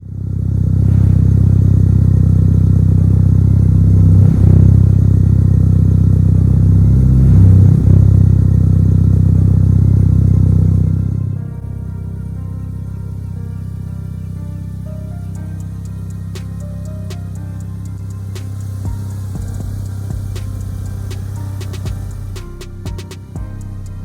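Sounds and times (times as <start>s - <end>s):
turbocharged car engine running: 0.0s - 24.0s.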